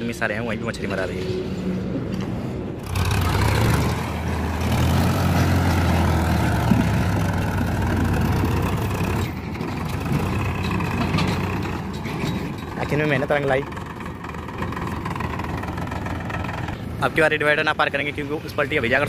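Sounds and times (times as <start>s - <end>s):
tractor diesel engine under load: 2.7s - 19.0s.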